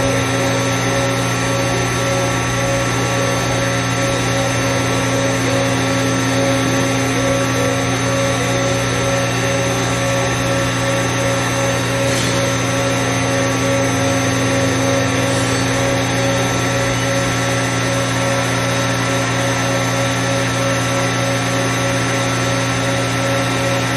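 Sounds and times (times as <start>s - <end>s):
machine hum and whine: 0.0s - 23.9s.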